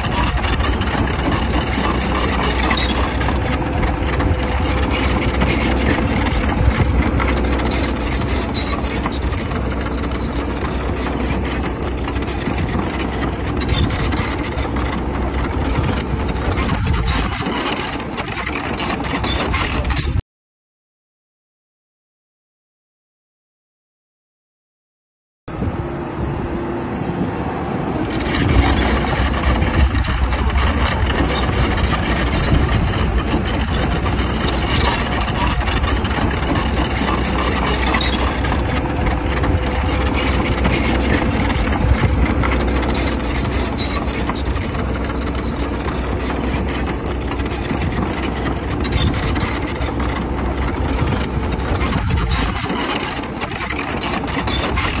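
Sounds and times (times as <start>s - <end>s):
excavator diesel engine running: 0.0s - 20.2s, 25.5s - 55.0s.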